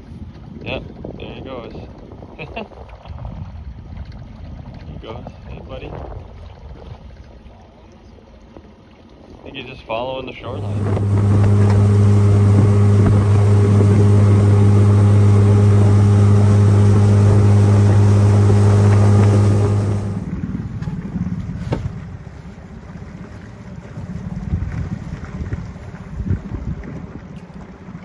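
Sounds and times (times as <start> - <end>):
wind on microphone: 0.0 - 7.4, 10.4 - 28.0
outboard motor humming: 0.0 - 28.0
water noise: 0.0 - 28.0.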